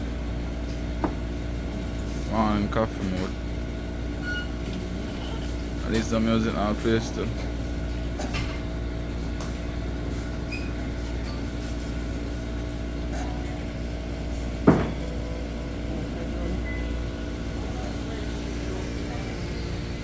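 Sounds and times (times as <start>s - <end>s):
mechanical hum with tones: 0.0s - 20.0s.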